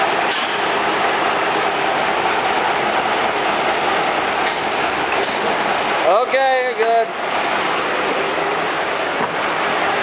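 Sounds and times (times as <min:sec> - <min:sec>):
train rolling along: 0:00.0 - 0:10.0.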